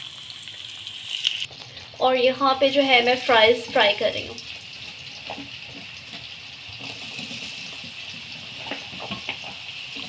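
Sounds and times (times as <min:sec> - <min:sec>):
potatoes sizzling in hot oil: 0:00.0 - 0:10.0.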